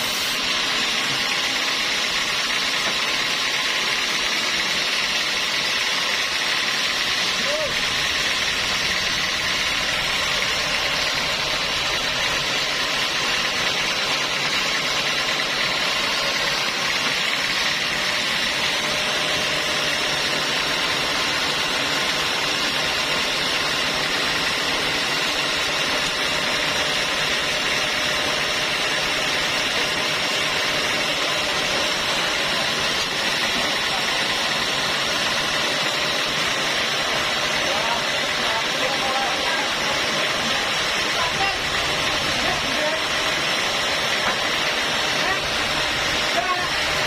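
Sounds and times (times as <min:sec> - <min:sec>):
sawmill machine running: 0:00.0 - 0:47.0.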